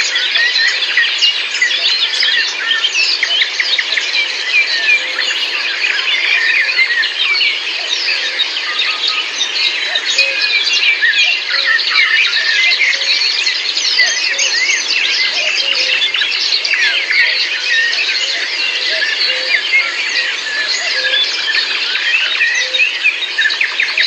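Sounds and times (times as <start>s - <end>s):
songbirds chirping and whistling: 0.0s - 24.0s.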